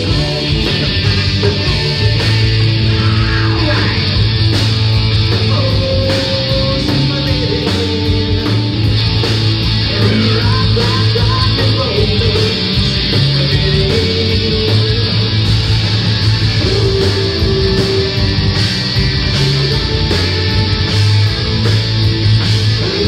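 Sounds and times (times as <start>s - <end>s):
electric guitar: 0.0s - 23.0s
rock band playing live: 0.0s - 23.0s.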